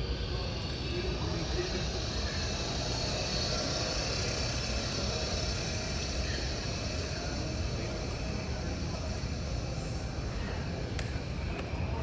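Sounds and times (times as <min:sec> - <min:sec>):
airport terminal ambient noise: 0:00.0 - 0:12.0.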